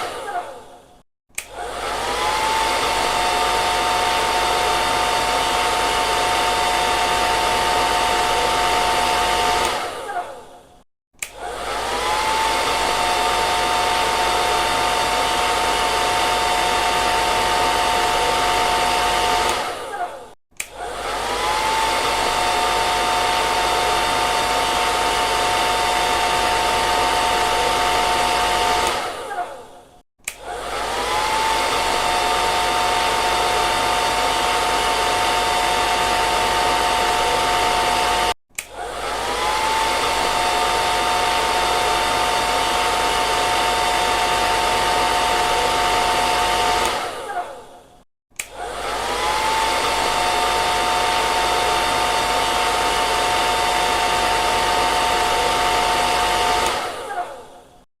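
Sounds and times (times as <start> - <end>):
hair dryer blowing: 0.0 - 10.6, 11.2 - 57.9.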